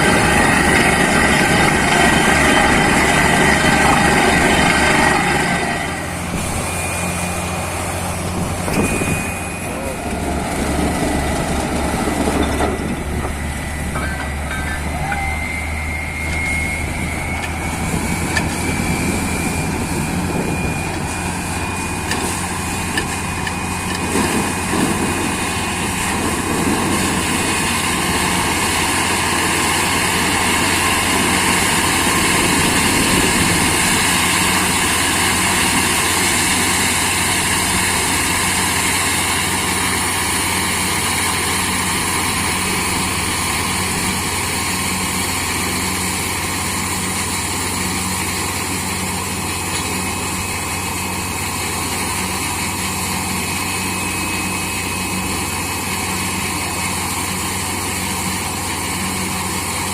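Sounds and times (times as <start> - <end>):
thin whine: 0.0 - 58.4
drilling rig running: 0.0 - 59.9.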